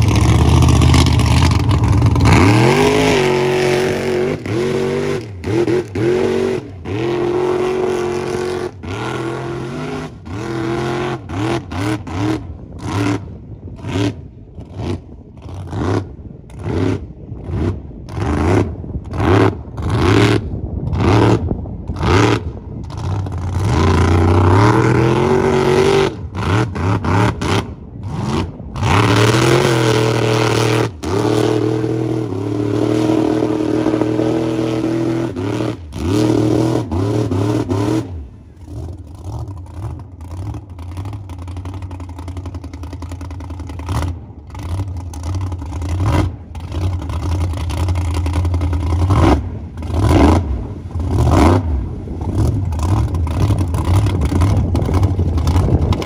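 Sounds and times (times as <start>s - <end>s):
tires churning water and mud: 0.0s - 56.0s
truck engine revving: 0.0s - 56.0s.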